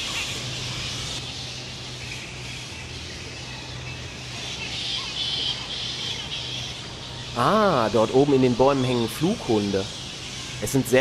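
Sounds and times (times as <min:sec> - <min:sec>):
flying foxes screeching: 0:00.0 - 0:11.0
steady low hum: 0:00.0 - 0:11.0.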